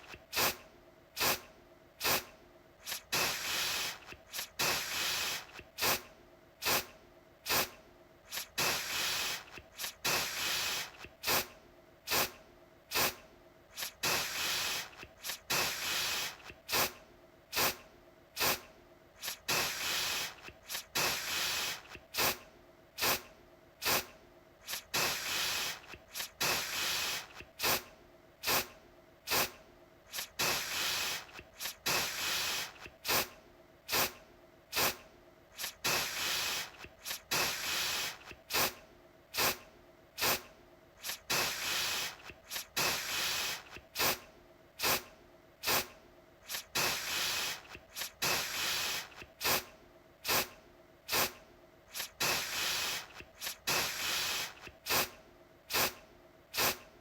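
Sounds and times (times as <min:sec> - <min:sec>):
aerosol can spraying: 0:00.0 - 0:00.6, 0:01.2 - 0:11.5, 0:12.1 - 0:17.8, 0:18.4 - 0:22.4, 0:23.0 - 0:28.7, 0:29.3 - 0:35.0, 0:35.6 - 0:38.8, 0:39.4 - 0:39.6, 0:40.2 - 0:44.2, 0:44.8 - 0:56.8.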